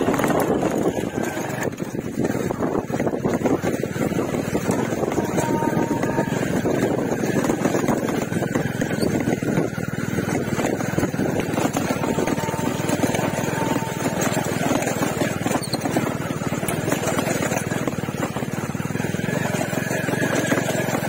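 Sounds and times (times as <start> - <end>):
motorcycle engine running: 0.0 - 21.0
wind noise on microphone: 0.0 - 21.0.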